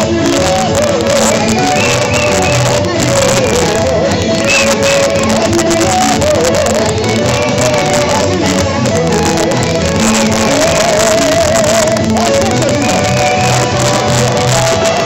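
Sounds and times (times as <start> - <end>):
person singing: 0.0 - 15.0
steady bass notes: 0.0 - 15.0
worship music: 0.0 - 15.0.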